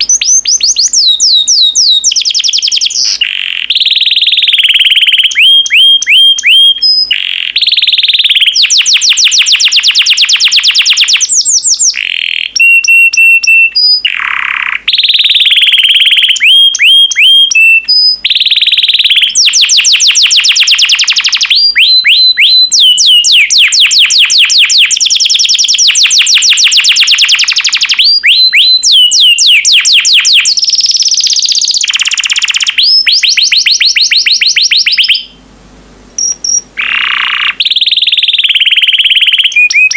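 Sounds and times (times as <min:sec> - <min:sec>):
canary singing trills: 0:00.0 - 0:35.4, 0:36.2 - 0:39.9.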